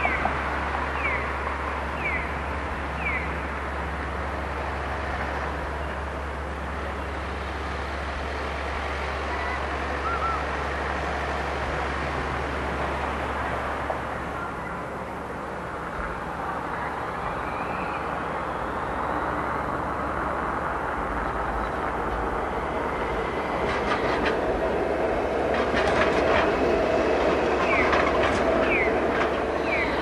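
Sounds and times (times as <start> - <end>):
street traffic: 0.0 - 30.0
tram rolling along: 0.0 - 30.0.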